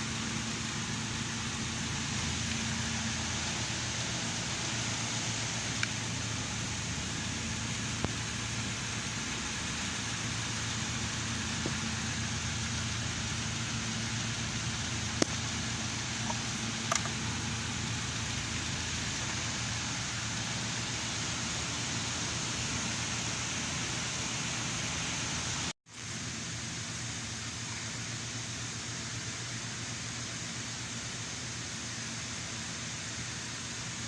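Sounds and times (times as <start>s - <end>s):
mechanical hum and hiss: 0.0s - 34.0s.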